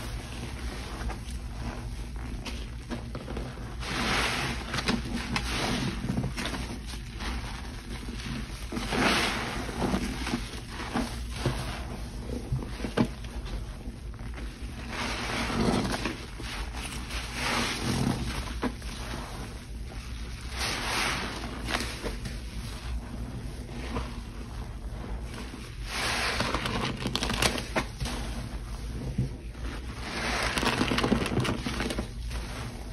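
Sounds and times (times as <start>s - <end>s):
soapy water sloshing: 0.0s - 32.9s.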